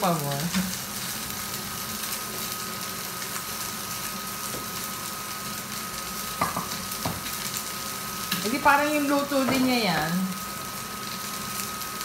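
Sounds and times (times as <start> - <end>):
rice and egg sizzling in pans: 0.0 - 12.0.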